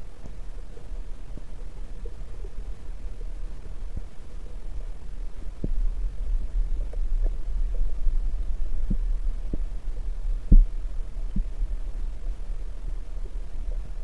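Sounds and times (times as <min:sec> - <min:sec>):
underwater water rumble: 0:00.0 - 0:14.0.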